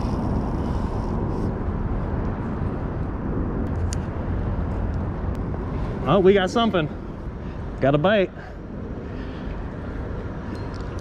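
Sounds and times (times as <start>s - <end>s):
traffic rumbling on bridge overhead: 0.0s - 11.0s.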